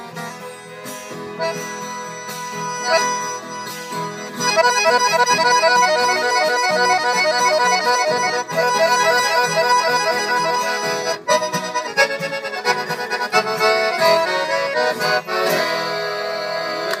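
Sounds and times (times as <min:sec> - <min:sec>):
accordion playing a country tune: 0:00.0 - 0:17.0.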